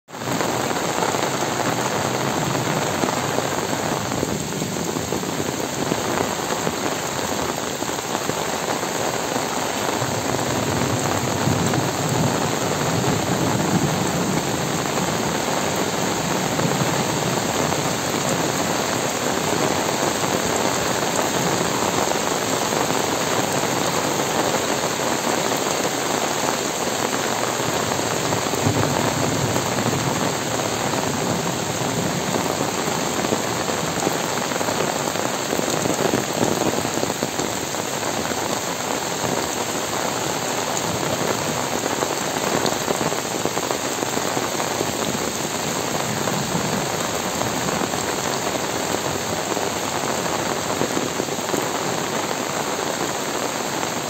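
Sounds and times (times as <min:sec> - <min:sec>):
heavy rain on trees: 0:00.1 - 0:54.0.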